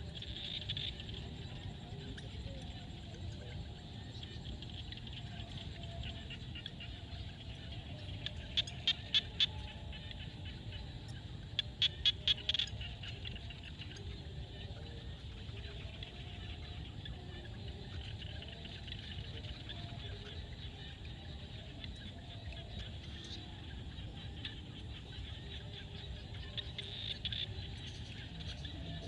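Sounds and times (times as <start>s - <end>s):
frogs chorus: 0.0s - 29.0s
sharp clicking frog calls: 0.0s - 29.0s.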